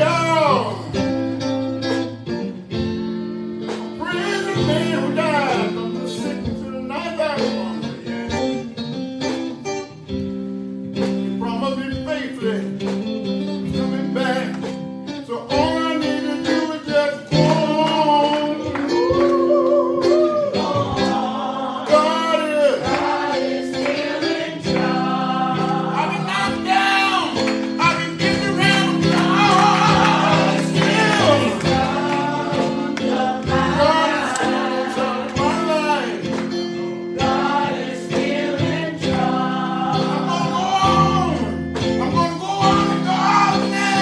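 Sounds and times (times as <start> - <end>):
gospel singing: 0.0 - 2.3, 3.7 - 9.0, 13.6 - 44.0
guitar accompaniment: 0.0 - 44.0.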